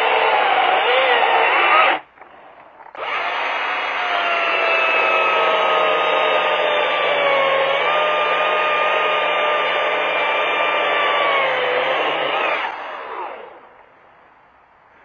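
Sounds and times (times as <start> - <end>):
chainsaw cutting log: 0.0 - 13.8.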